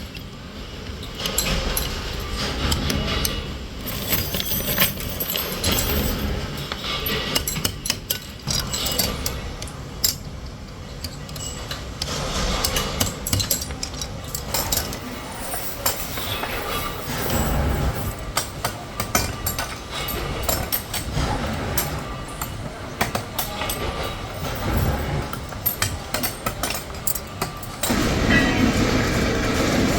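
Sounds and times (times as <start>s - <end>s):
constant background noise: 0.0s - 29.9s
steel parts clinking and knocking: 0.0s - 29.9s.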